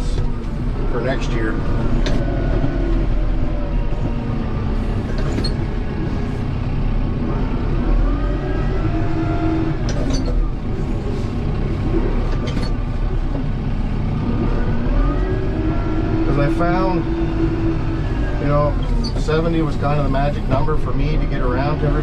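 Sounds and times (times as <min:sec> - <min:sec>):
tractor diesel engine: 0:00.0 - 0:22.0.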